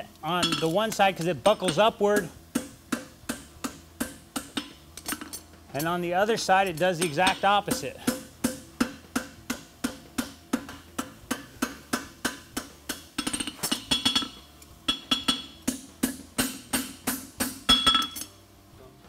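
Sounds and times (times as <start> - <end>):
hammer striking hot steel on anvil: 0.3 - 6.0, 6.6 - 18.4.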